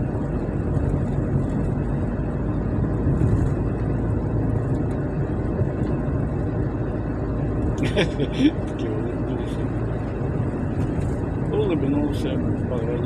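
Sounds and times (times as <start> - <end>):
car tyres and engine rumble: 0.0 - 13.0.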